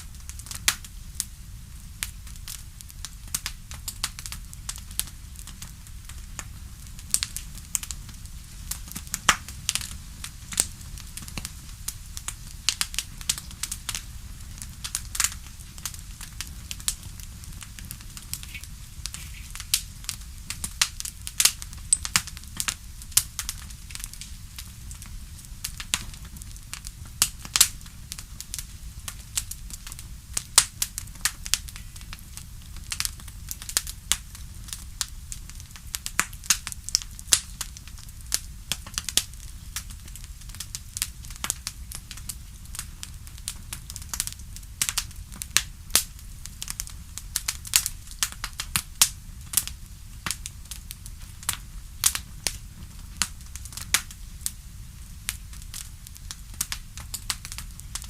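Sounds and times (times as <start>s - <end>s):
bonfire crackling: 0.0s - 58.0s
fire pops and snaps: 0.0s - 58.0s
low fire rumble: 0.0s - 58.0s.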